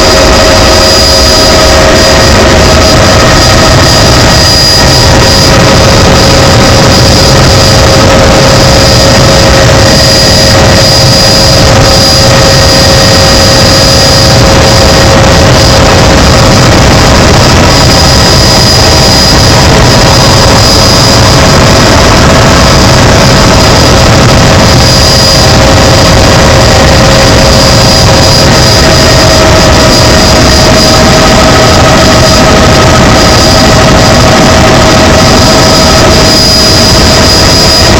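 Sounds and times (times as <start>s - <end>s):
helicopter engine and rotor: 0.0s - 37.9s.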